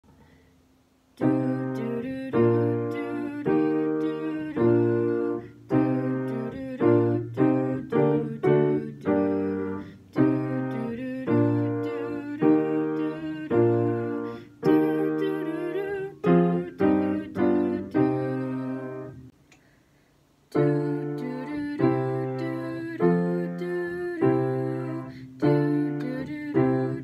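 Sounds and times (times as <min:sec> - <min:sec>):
piano chords in a minor key: 0:01.2 - 0:19.3, 0:20.6 - 0:27.0.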